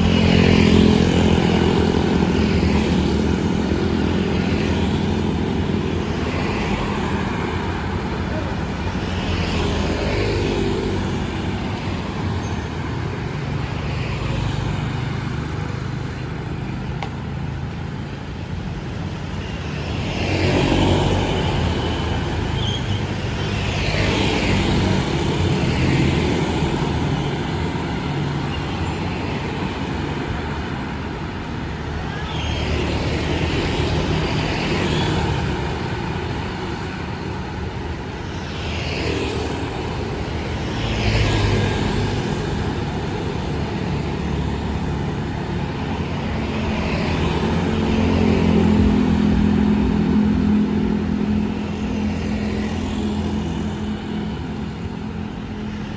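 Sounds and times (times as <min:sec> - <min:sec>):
traffic engines rumbling: 0:00.0 - 0:55.9
vehicles passing close: 0:00.0 - 0:55.9.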